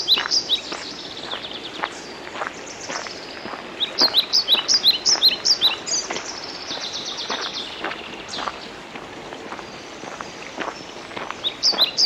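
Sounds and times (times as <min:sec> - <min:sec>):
footsteps on forest trail: 0:00.0 - 0:12.0.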